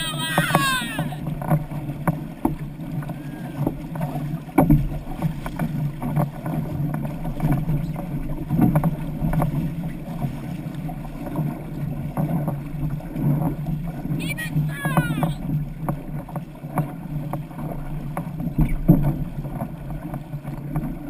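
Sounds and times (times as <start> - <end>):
paddles splashing: 0.0 - 21.0
water rushing along hull: 0.0 - 21.0.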